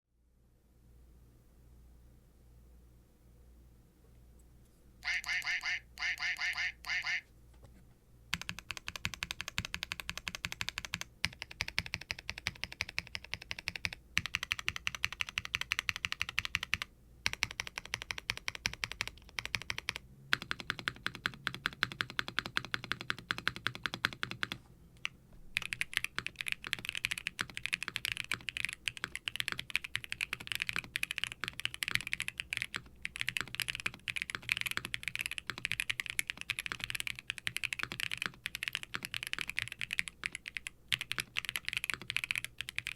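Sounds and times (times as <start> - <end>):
typing on mechanical keyboard: 8.3 - 42.9.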